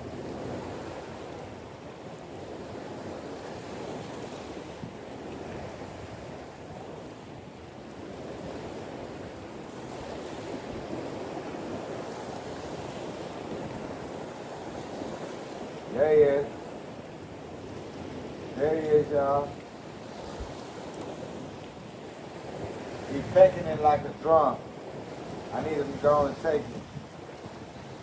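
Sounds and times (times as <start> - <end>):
surf: 0.0 - 28.0
wind buffeting microphone: 0.0 - 28.0.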